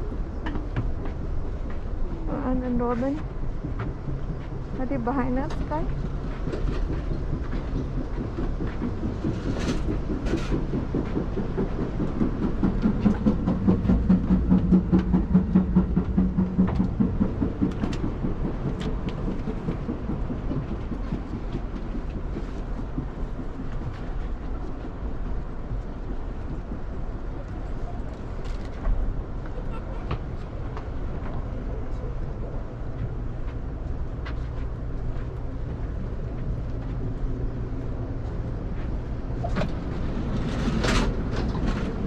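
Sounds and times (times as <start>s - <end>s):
train rumbling: 0.0s - 42.0s
wheels clattering on rails: 0.0s - 42.0s.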